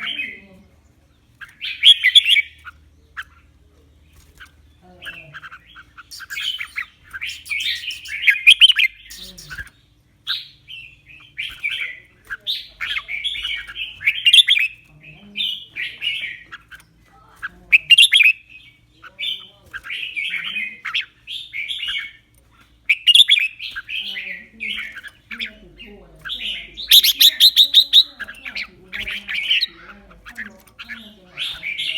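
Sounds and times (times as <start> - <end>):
bird singing warbled phrases: 0.0 - 31.9.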